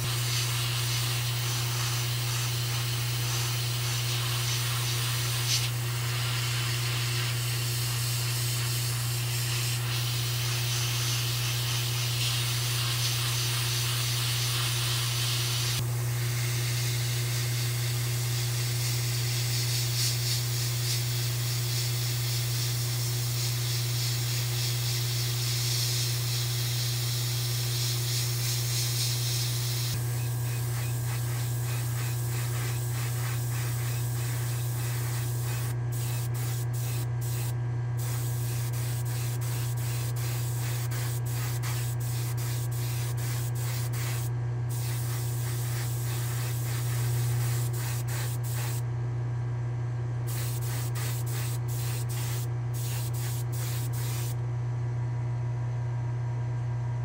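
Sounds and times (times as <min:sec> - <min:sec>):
airbrush spraying hiss: 0:00.0 - 0:48.8, 0:50.3 - 0:54.4
steady low hum: 0:00.0 - 0:55.2.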